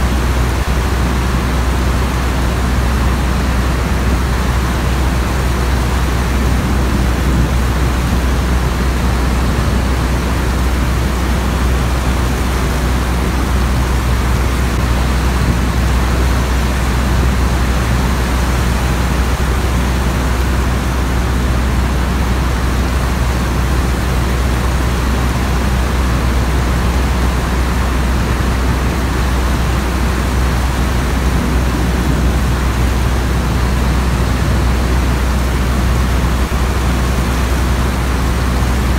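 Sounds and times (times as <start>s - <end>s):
propeller aircraft engine drone: 0.0s - 38.9s
rain hiss: 0.0s - 38.9s.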